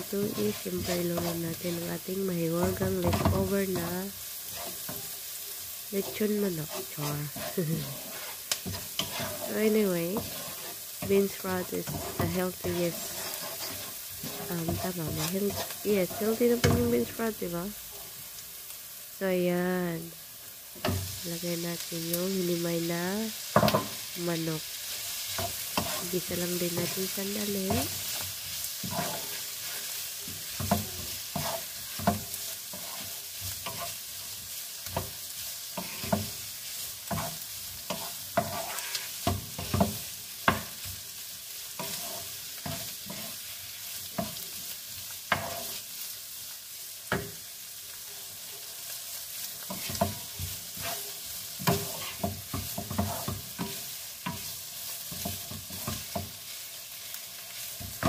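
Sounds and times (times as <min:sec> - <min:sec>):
wooden spatula scraping a pan: 0:00.0 - 0:17.3, 0:22.0 - 0:58.0
chicken sizzling in a frying pan: 0:00.0 - 0:58.0.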